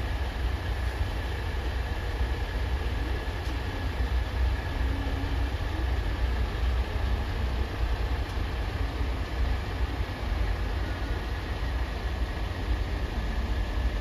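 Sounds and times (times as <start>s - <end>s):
faint high whine: 0.0s - 14.0s
heavy engines rumbling: 0.0s - 14.0s.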